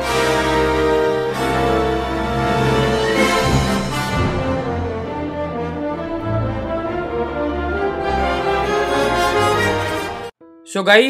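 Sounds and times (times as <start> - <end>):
theme music with held notes: 0.0 - 11.0.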